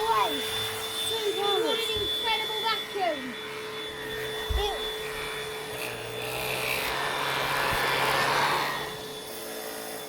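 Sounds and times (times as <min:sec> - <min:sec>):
vacuum cleaner on carpet: 0:00.0 - 0:10.0.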